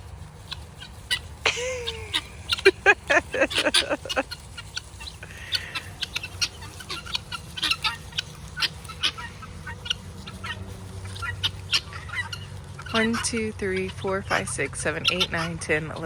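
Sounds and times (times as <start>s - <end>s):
guinea fowl calling: 0.1s - 16.0s.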